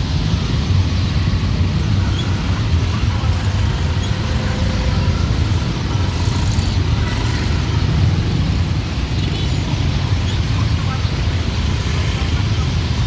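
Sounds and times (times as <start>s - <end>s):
dense street traffic rumbling: 0.0s - 13.0s.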